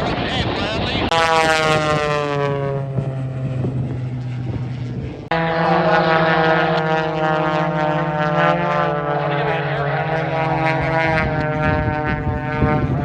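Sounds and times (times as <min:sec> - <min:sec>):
propeller airplane droning past: 0:00.0 - 0:13.0.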